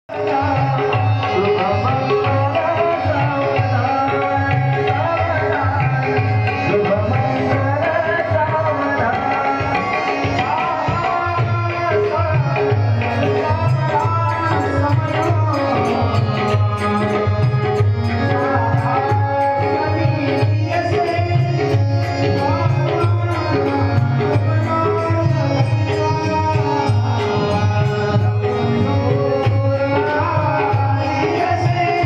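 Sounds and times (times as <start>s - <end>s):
person singing: 0.1s - 32.0s
tabla rhythm: 0.1s - 32.0s.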